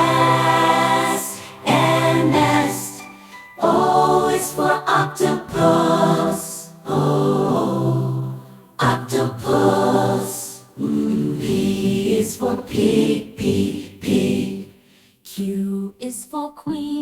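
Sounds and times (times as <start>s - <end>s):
children's song being sung: 0.0s - 14.6s, 15.3s - 17.0s.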